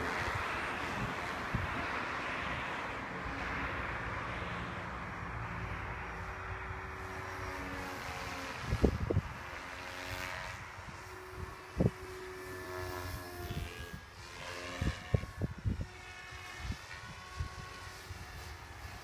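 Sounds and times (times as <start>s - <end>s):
model helicopter motor whine: 0.0s - 19.0s.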